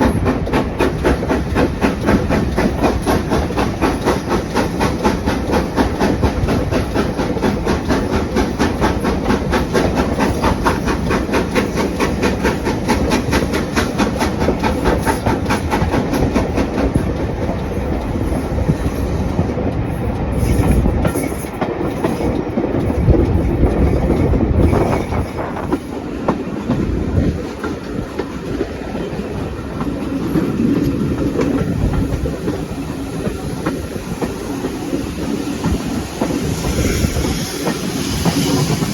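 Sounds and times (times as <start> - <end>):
train wheels clicking over rails: 0.0 - 38.9.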